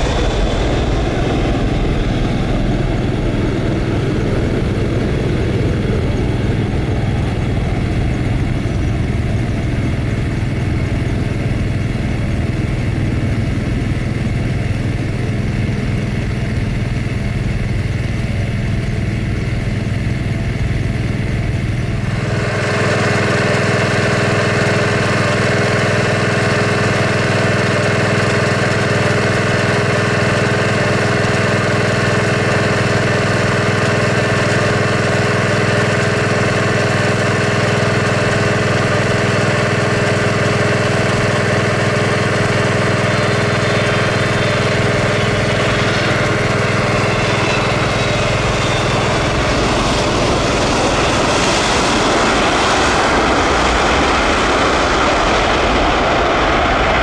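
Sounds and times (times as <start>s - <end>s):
bright loud jet engine whine: 0.0s - 57.0s
jet engines droning at low power: 0.0s - 57.0s.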